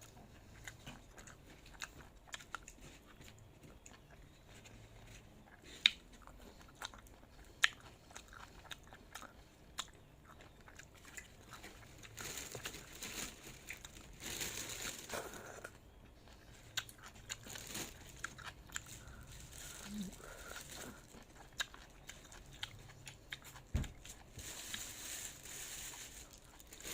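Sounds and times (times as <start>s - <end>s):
crunchy bites and chewing: 0.0s - 24.9s
small crackles: 0.0s - 26.9s.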